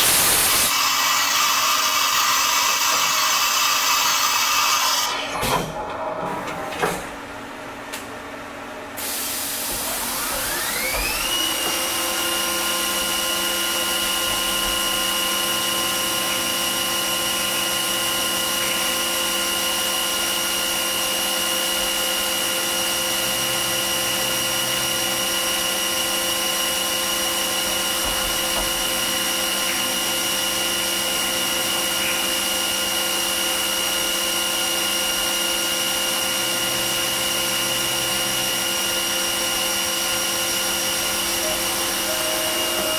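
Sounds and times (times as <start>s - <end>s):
end mill cutting plastic: 0.0s - 7.0s, 9.0s - 42.9s
mill spindle whine: 0.0s - 42.9s.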